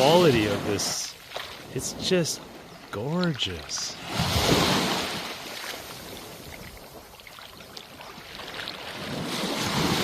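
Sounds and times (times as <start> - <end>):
waves washing onto beach: 0.0 - 10.0.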